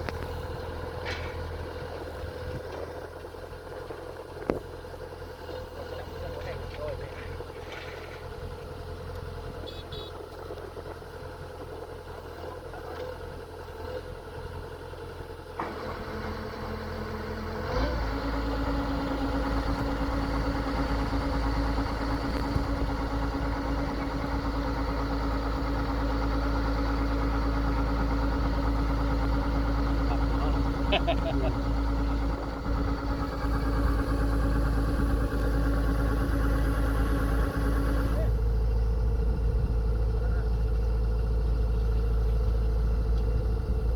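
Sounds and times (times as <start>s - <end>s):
harvester engine droning: 0.0s - 43.9s.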